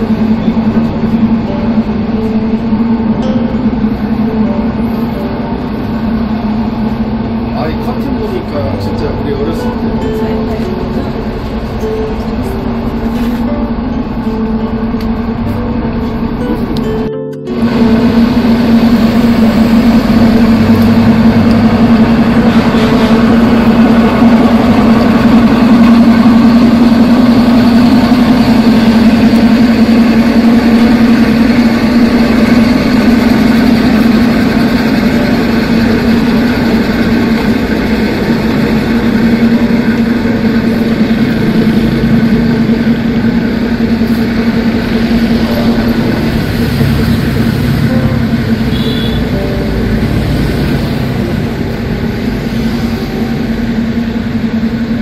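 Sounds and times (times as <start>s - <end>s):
diesel locomotive idling: 0.0s - 55.0s.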